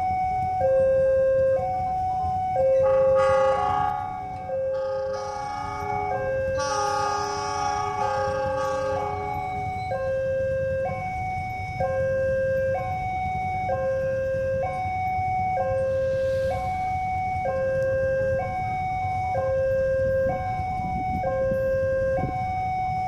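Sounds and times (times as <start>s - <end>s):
level crossing two-tone alarm: 0.0s - 23.0s
steady low rumble: 1.8s - 21.9s.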